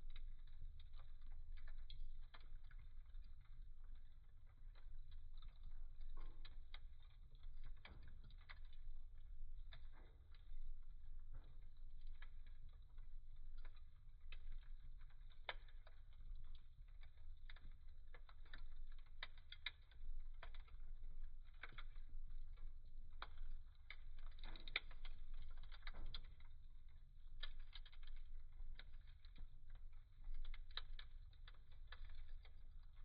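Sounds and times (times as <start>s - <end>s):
low steady fire rumble: 0.0s - 33.0s
wood fire crackling and popping: 0.0s - 33.0s.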